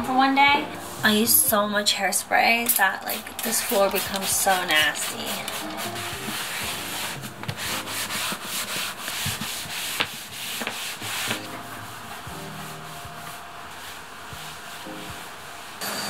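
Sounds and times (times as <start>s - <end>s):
towel scrubbing wooden floor: 0.4s - 15.8s.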